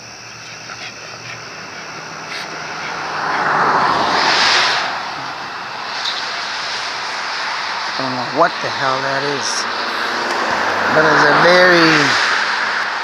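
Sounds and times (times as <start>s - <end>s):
car passing by: 0.7s - 13.0s.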